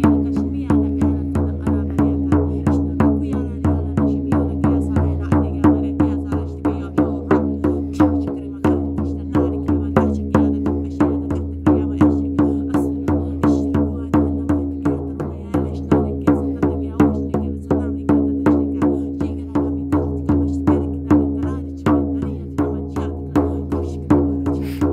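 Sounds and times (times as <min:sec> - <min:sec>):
frame drum beating: 0:00.0 - 0:24.9.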